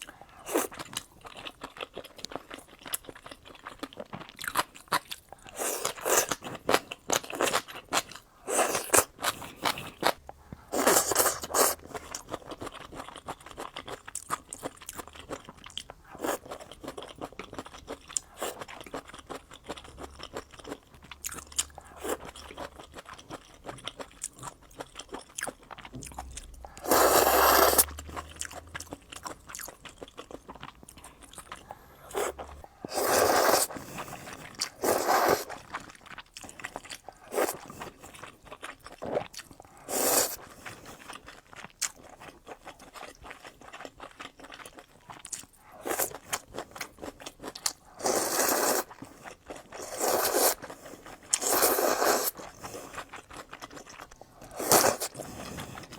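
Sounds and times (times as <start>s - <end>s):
crunchy chewing and biting: 0.4s - 55.9s.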